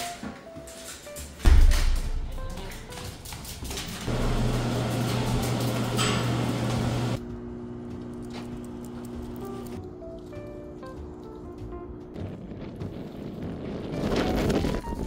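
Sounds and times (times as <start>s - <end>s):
mechanical hum with low drone: 1.5s - 15.0s.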